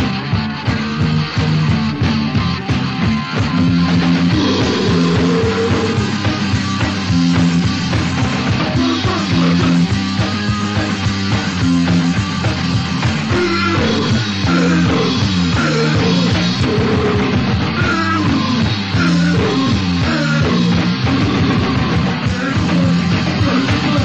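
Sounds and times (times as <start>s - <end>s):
bass guitar notes: 0.0s - 24.0s
distorted electric guitars: 0.0s - 24.0s
fast drums: 0.0s - 24.0s.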